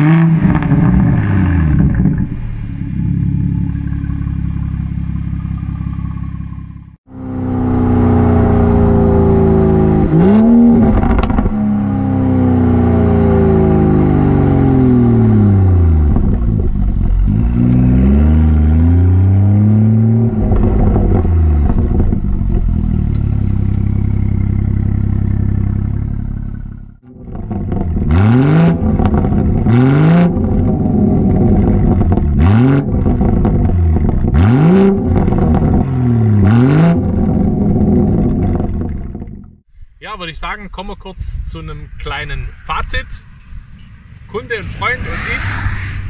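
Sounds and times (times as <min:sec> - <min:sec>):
car engine revving: 0:00.0 - 0:39.6.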